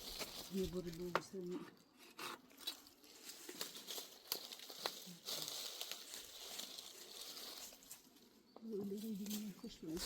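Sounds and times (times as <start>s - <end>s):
crinkling and rustling: 0.0s - 10.0s.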